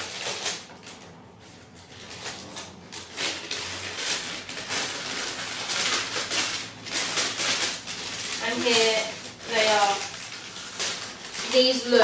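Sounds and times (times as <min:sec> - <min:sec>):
tissue paper rustling and crinkling: 0:00.0 - 0:12.0.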